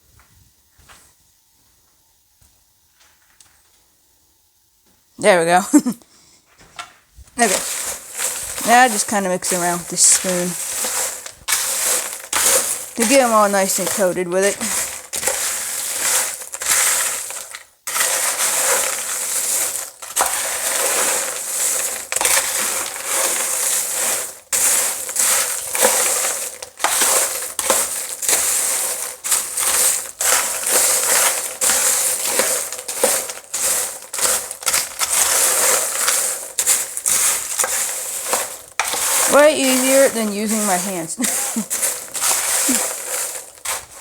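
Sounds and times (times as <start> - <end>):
spoon stirring dry crackers: 7.3 - 44.0.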